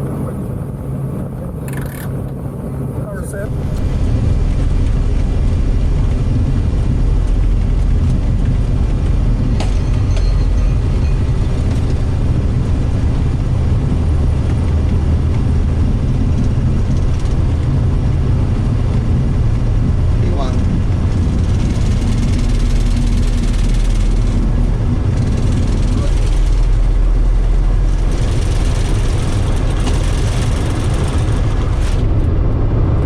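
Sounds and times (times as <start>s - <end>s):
jet engines deep rumble: 0.0s - 33.0s.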